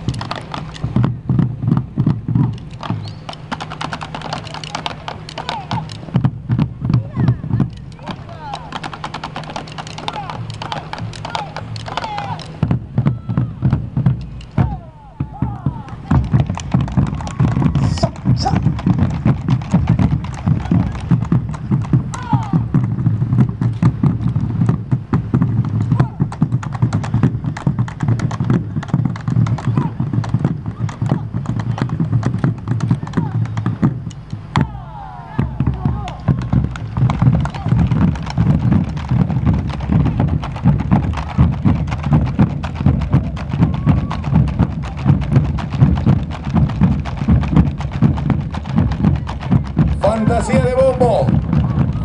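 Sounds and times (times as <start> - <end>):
drums beaten with sticks: 0.0 - 52.0.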